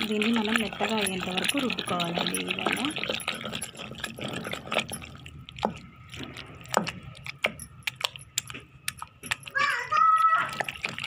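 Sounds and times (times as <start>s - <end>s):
wet squelching and mashing: 0.0s - 11.0s.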